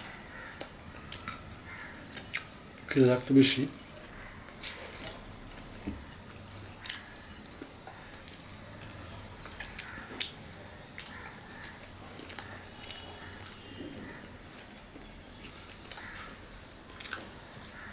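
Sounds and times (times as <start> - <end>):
man chewing food: 0.0 - 2.9, 3.7 - 17.9.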